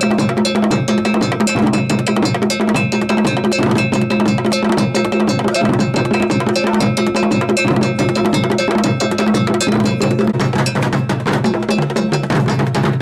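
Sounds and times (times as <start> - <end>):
deep drums: 0.0 - 13.0
metal bell pattern: 0.0 - 13.0.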